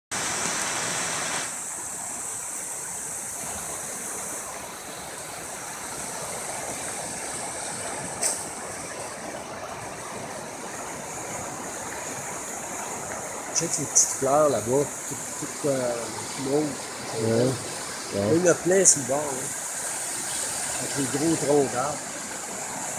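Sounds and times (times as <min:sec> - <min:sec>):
river rushing over rapids: 0:00.1 - 0:22.9.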